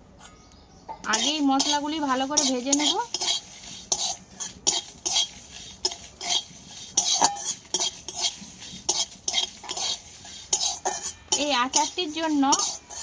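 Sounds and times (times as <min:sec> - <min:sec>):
metal spatula scraping spices in pan: 0:00.2 - 0:13.0.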